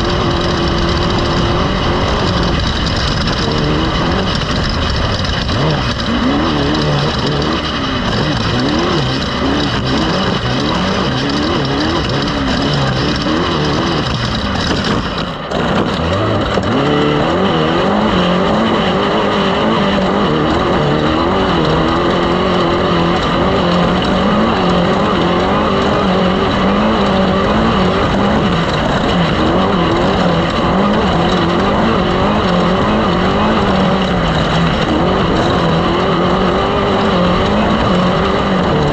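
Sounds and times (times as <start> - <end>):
loud racing engine: 0.0 - 38.9.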